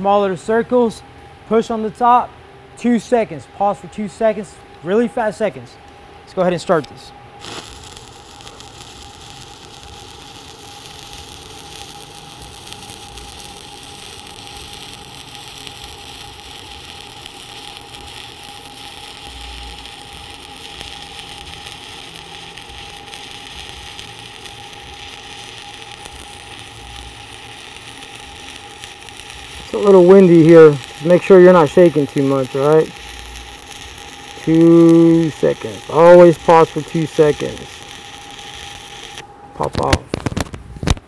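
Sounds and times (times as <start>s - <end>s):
welding arc crackling: 6.8s - 41.0s.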